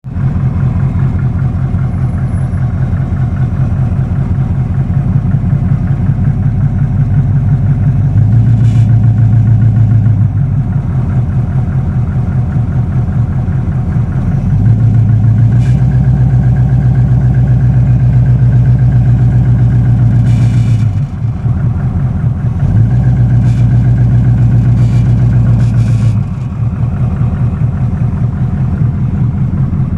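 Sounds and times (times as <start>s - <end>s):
car engine revving and idling: 0.1s - 29.9s
engine knocking: 0.1s - 29.9s.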